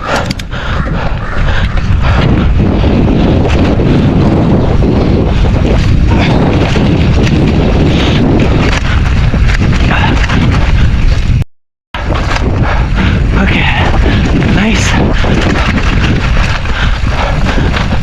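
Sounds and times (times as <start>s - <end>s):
bike tyres rumbling on dirt: 0.0s - 11.4s, 12.0s - 18.0s
wind buffeting microphone: 0.0s - 11.4s, 12.0s - 18.0s.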